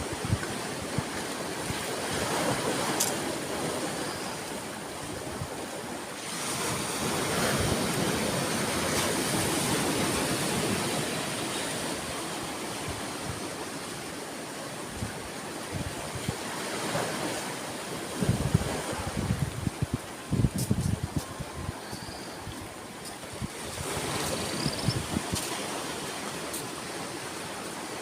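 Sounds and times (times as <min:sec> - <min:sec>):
waves washing onto beach: 0:00.0 - 0:28.0.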